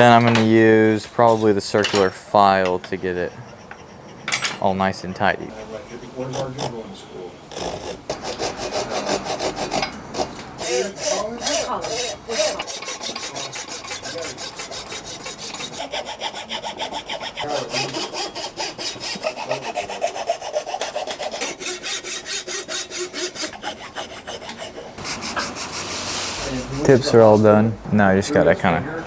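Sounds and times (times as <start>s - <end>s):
round file filing wood: 0.0s - 27.8s
hand saw cutting wood: 0.2s - 4.7s, 5.5s - 27.7s.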